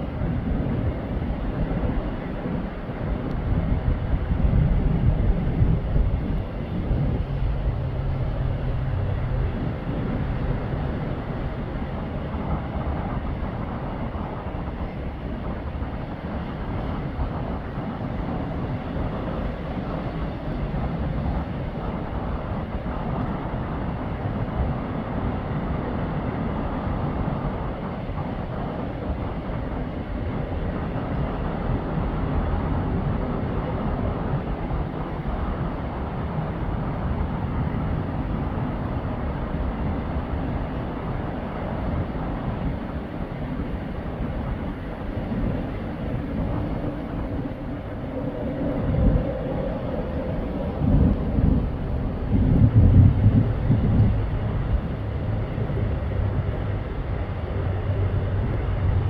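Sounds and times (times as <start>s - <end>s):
low engine or traffic rumble: 0.0s - 26.2s, 26.8s - 59.0s.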